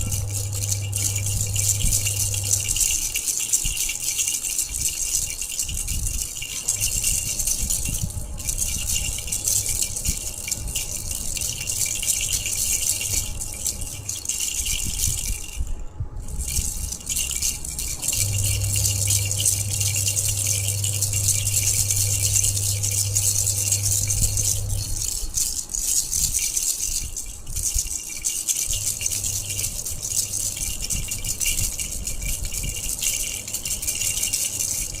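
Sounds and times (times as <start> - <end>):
baby rattle shaking: 0.0 - 35.0
low steady hum: 0.0 - 35.0.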